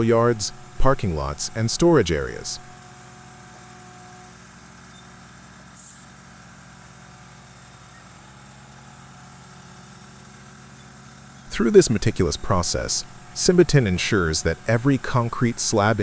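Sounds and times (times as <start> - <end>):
machine engine running: 0.0 - 16.0.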